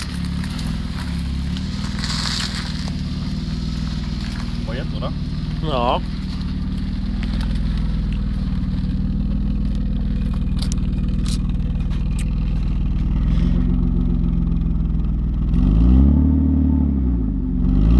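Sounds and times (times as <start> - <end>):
car engine idling and revving: 0.0 - 17.9.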